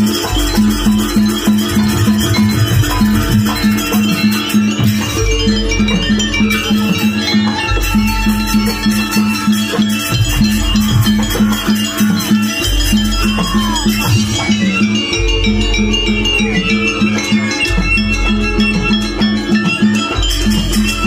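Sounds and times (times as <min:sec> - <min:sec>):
gamelan percussion fast beat: 0:00.0 - 0:21.0.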